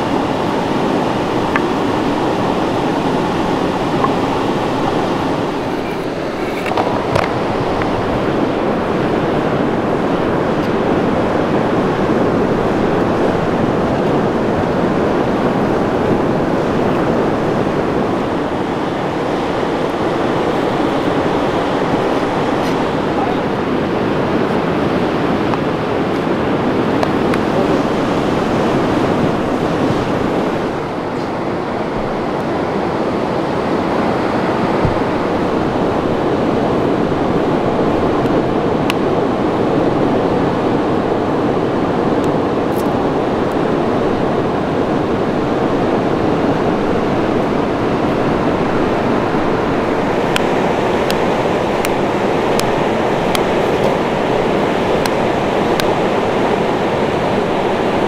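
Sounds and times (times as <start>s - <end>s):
steady rushing outdoor noise: 0.0s - 58.0s.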